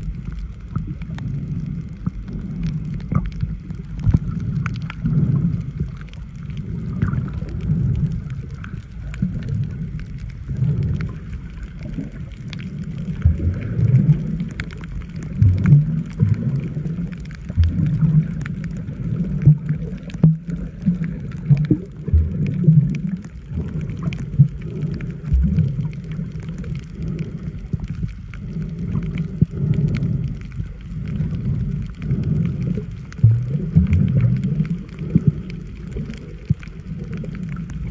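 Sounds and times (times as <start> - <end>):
faint clicks: 0.0 - 37.9
muffled underwater rumble: 0.0 - 37.9.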